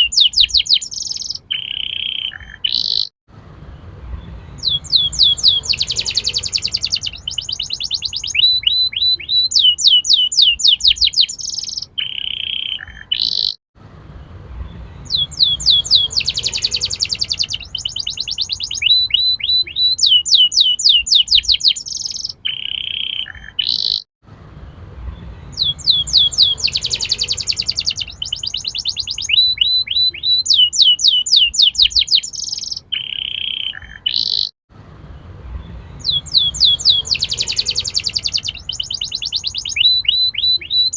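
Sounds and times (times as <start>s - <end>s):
canary singing trills: 0.0s - 3.1s, 4.1s - 13.6s, 14.6s - 24.1s, 25.1s - 34.6s, 35.6s - 40.9s.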